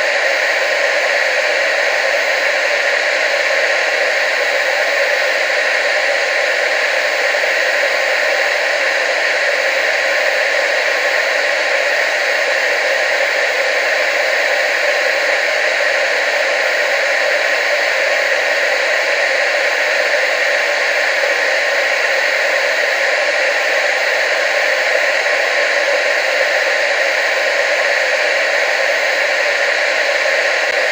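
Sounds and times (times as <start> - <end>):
tv static hiss: 0.0 - 30.9.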